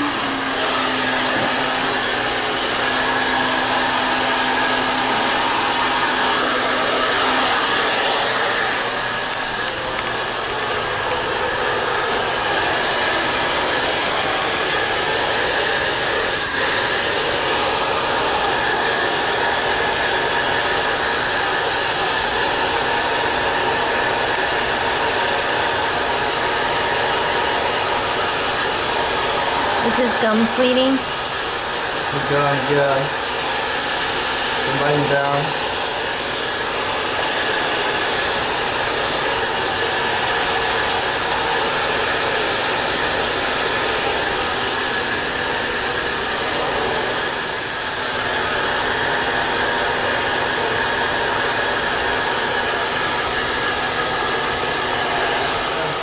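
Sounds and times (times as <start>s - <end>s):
blow dryer rushing air: 0.0s - 56.0s.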